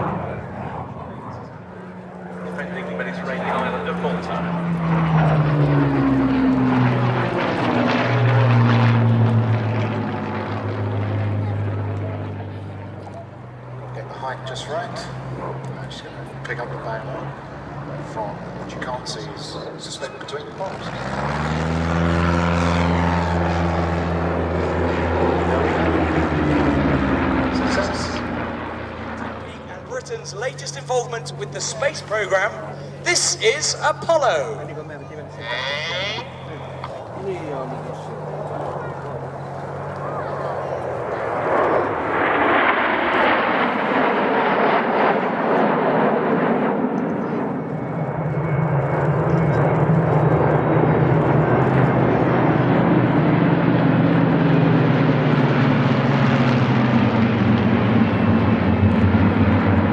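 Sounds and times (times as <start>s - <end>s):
propeller aircraft engine: 0.0s - 59.9s.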